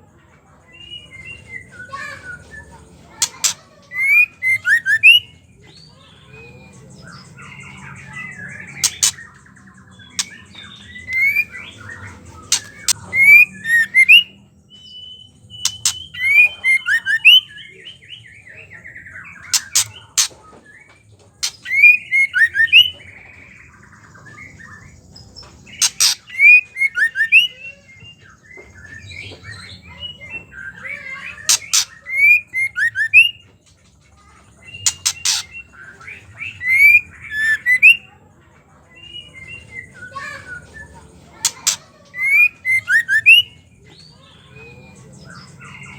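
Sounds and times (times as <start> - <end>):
bird chattering chirps: 0.6 - 45.9.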